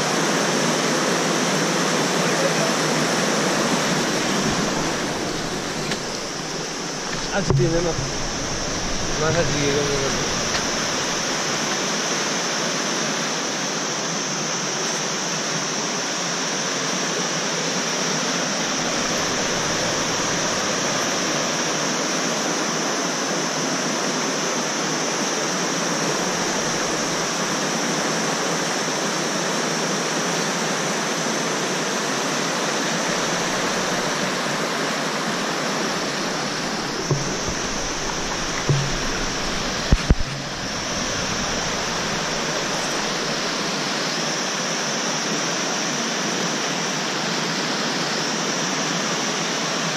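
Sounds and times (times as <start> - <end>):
river rushing over rapids: 0.0 - 49.9.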